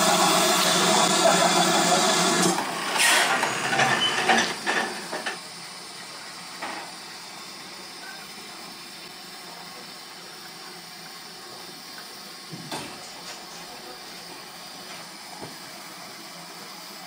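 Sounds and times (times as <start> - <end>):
steam locomotive running noise: 0.0 - 17.0.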